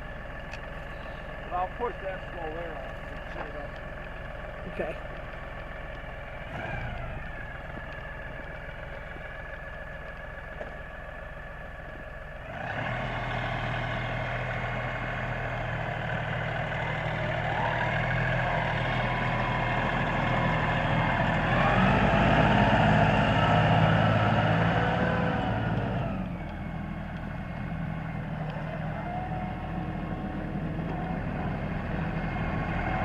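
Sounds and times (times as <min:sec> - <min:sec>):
tractor diesel engine: 0:00.0 - 0:33.0.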